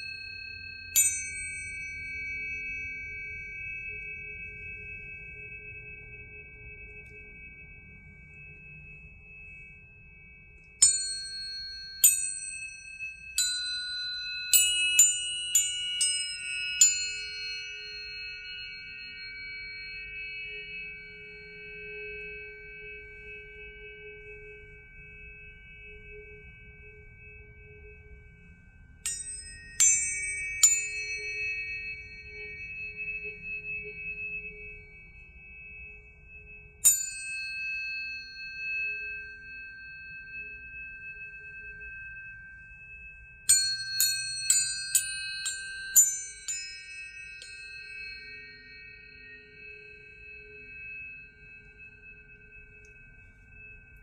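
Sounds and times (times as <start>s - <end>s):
tuning forks ringing: 0.0s - 54.0s.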